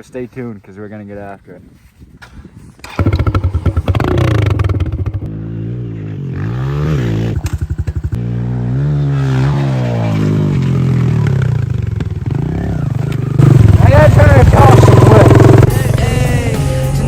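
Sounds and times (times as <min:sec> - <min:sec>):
pit bike engine revving: 0:02.8 - 0:16.5.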